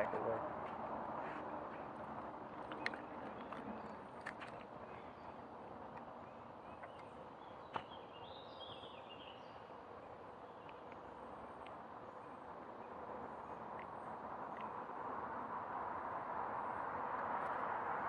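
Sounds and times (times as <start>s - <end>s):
quiet outdoor background noise: 0.0s - 18.0s.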